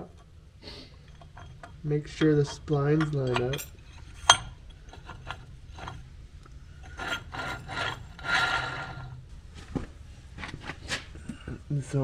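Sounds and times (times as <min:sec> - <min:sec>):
metal scraping and rubbing: 0:00.0 - 0:11.8.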